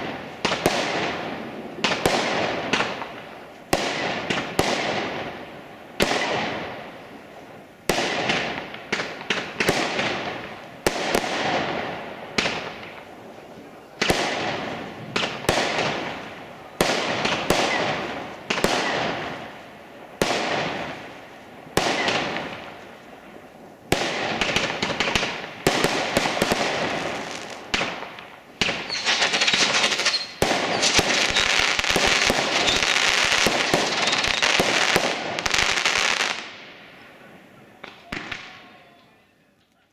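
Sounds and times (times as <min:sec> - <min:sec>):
fireworks banging and crackling: 0:00.0 - 0:39.2.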